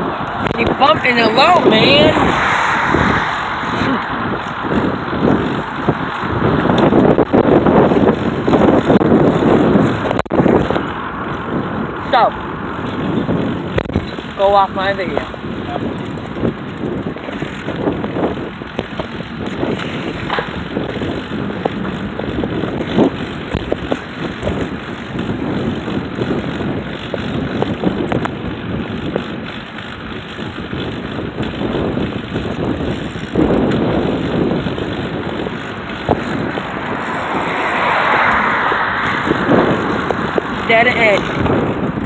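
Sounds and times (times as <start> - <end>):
bicycle rattling: 0.0 - 42.0
wind buffeting microphone: 0.0 - 42.0.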